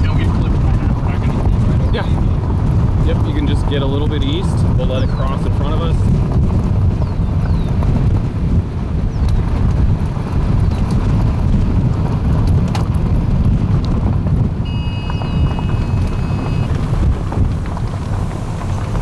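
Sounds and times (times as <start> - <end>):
road noise: 0.0 - 19.0
wind buffeting: 0.0 - 19.0.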